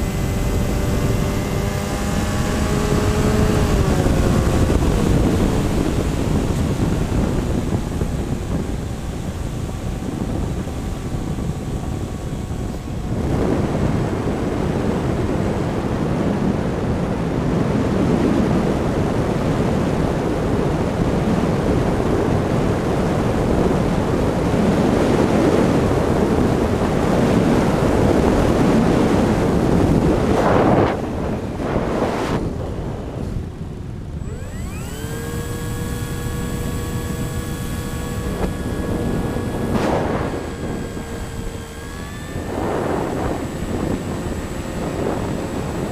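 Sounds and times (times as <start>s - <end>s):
electric motor whine: 0.0s - 45.9s
wind rushing over microphone: 0.0s - 45.9s.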